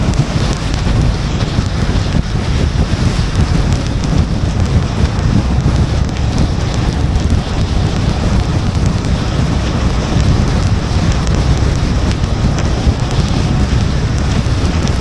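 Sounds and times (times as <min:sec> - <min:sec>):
raindrops ticking: 0:00.0 - 0:15.0
tyres and wind rumble: 0:00.0 - 0:15.0.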